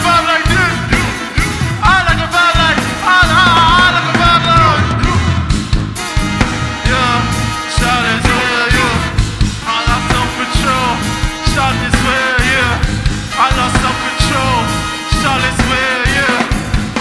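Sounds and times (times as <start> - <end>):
steady drum beat: 0.0 - 17.0
trumpets and horns: 0.0 - 17.0.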